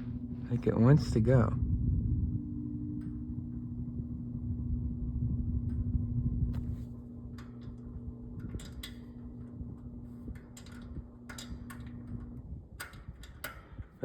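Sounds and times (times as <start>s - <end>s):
fan motor humming: 0.0s - 14.0s.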